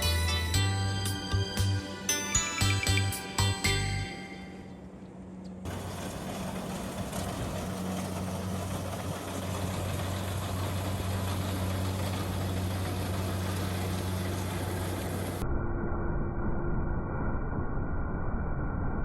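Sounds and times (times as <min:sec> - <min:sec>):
engine running steadily: 0:00.0 - 0:15.4.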